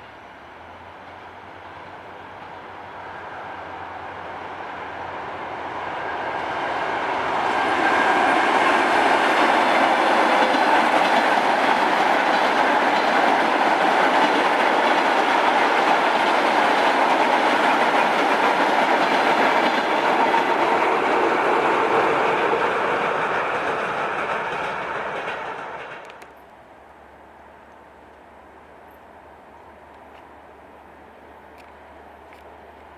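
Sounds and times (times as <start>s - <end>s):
train passing: 0.0s - 32.9s.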